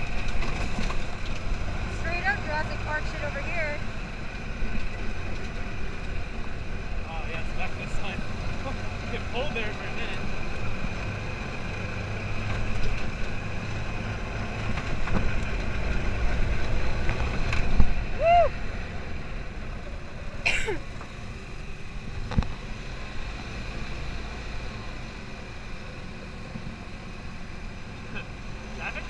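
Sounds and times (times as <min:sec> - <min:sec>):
buggy engine rumbling: 0:00.0 - 0:29.0.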